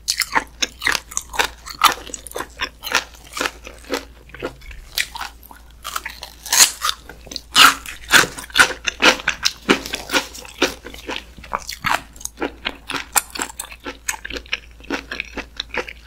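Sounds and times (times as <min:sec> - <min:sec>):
wet sticky chewing: 0:00.0 - 0:16.0.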